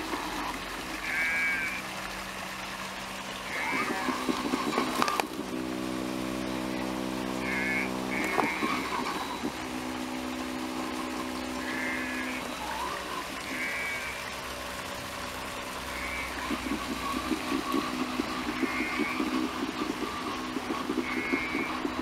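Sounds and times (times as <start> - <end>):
robot lawnmower motors humming: 0.0 - 22.0
high warbling chirps: 3.4 - 22.0.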